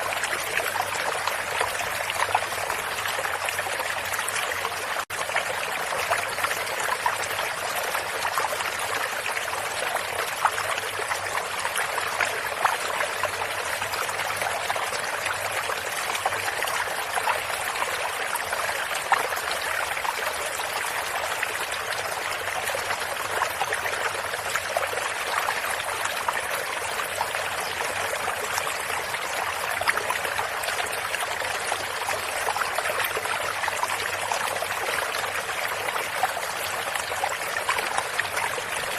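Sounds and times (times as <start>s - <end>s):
stream flowing over stones: 0.0s - 38.9s.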